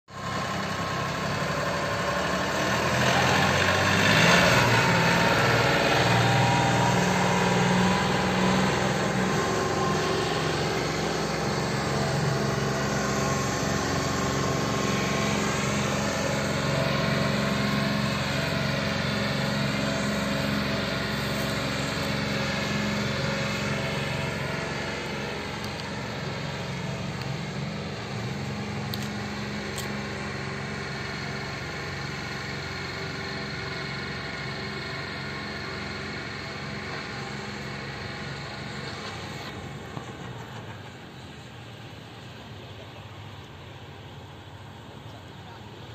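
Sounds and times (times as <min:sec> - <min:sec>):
tractor diesel engine passing: 0:00.1 - 0:45.9.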